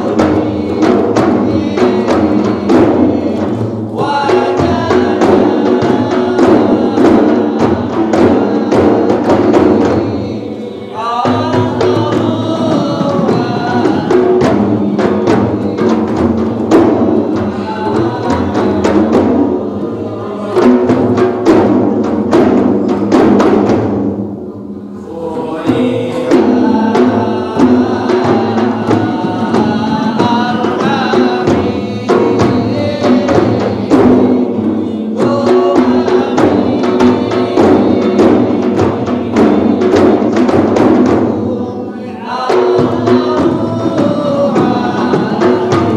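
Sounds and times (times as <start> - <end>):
group of voices chanting: 0.0 - 21.7, 25.0 - 45.9
frame drums beating: 0.0 - 45.9.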